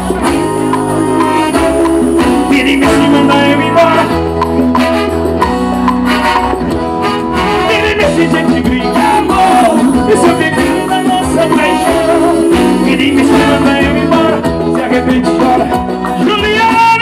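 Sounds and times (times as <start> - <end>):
person singing: 0.0 - 4.3, 7.6 - 17.0
accordion and keyboards: 0.0 - 17.0
bass line: 0.0 - 17.0
percussion beat: 0.0 - 17.0.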